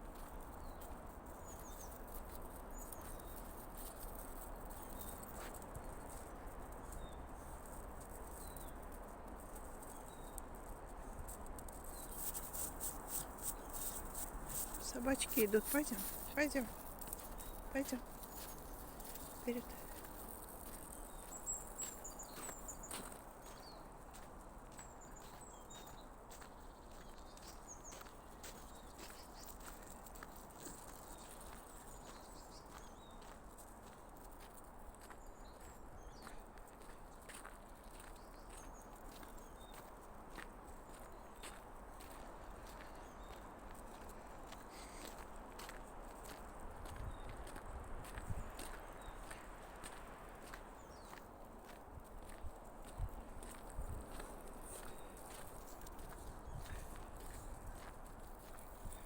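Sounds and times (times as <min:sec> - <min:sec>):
crunching footsteps on path: 0:00.0 - 0:59.0.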